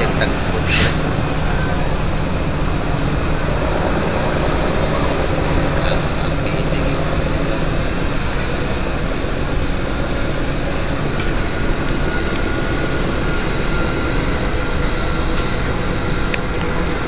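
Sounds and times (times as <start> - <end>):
faint steady tones: 0.0 - 17.0
rushing air: 0.0 - 17.0
ship engine and machinery drone: 0.0 - 17.0.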